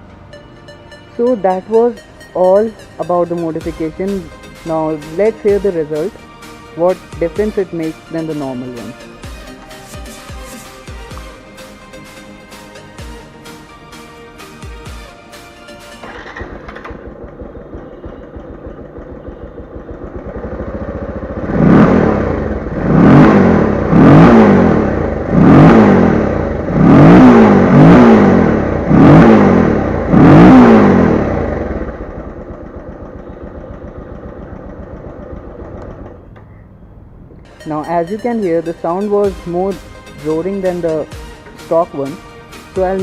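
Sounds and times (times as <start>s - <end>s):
motorcycle engine revving: 1.2s - 37.5s, 38.5s - 43.0s.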